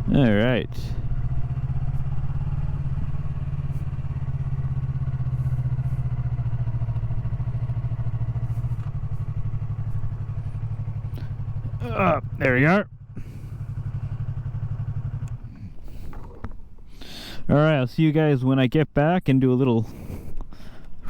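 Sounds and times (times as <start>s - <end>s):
motorcycle engine idling: 0.0s - 17.7s.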